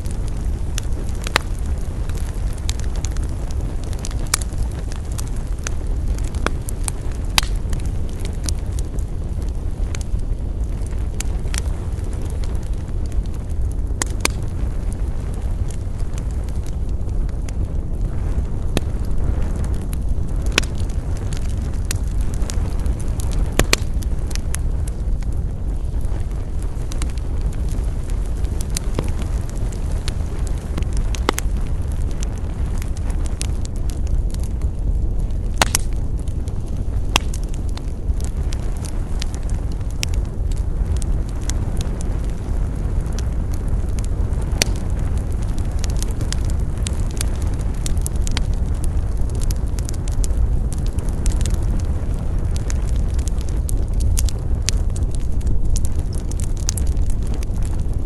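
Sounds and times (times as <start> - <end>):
campfire crackling and popping: 0.0 - 58.0
fire low rumble: 0.0 - 58.0.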